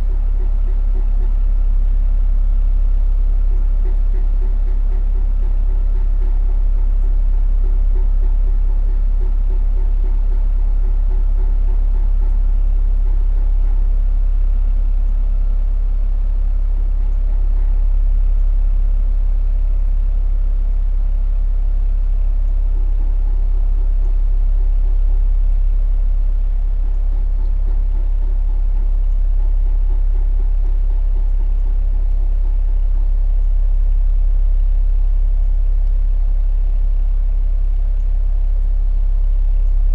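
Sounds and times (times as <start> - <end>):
heat pump low hum: 0.0 - 39.9.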